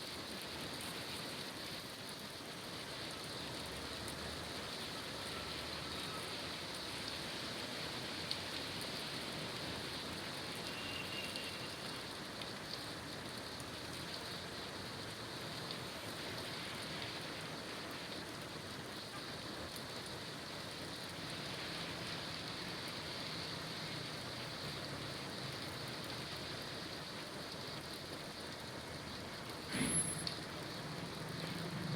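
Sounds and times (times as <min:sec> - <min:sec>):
low rumble of city traffic: 0:00.0 - 0:31.9
steady rain falling: 0:00.0 - 0:31.9.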